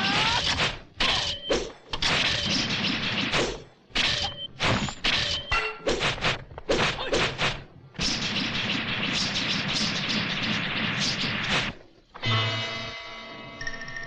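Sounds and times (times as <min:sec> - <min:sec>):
sharp whacks and crashing hits: 0:00.0 - 0:11.8.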